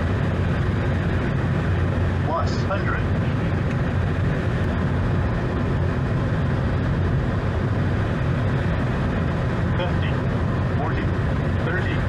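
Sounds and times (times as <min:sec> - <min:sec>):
aircraft engine rumbling: 0:00.0 - 0:12.0.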